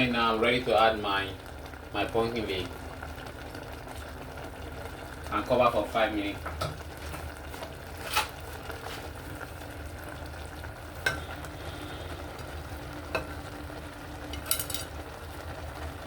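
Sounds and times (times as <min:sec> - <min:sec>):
soup sizzling in a pot: 0:00.0 - 0:16.0.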